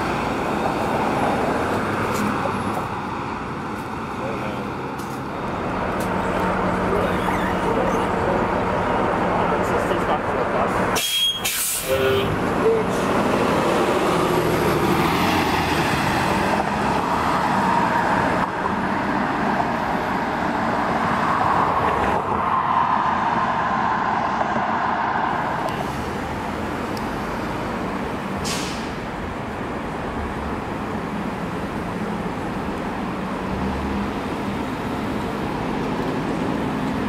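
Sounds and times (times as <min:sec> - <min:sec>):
bus engine pulling away: 0:00.0 - 0:22.3, 0:25.2 - 0:37.0
road and traffic noise: 0:00.0 - 0:37.0.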